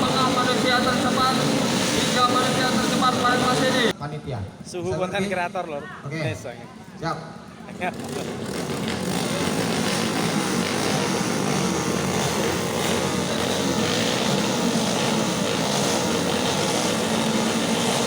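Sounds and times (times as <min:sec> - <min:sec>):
motorcycle engines buzzing: 0:00.0 - 0:04.0, 0:07.2 - 0:18.0.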